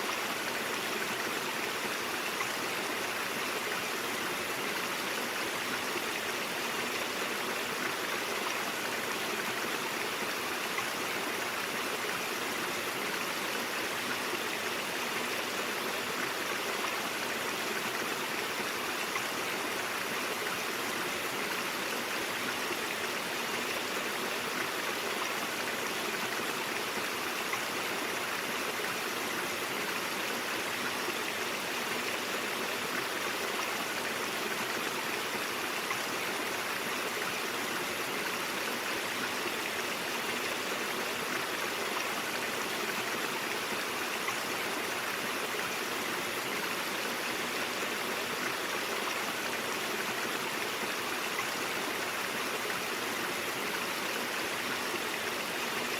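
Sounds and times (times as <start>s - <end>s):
brook water flowing over rocks: 0.0s - 55.9s.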